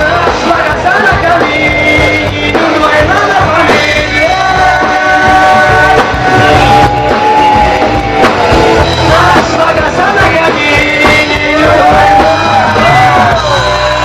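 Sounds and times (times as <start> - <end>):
rock song with band: 0.0 - 14.0.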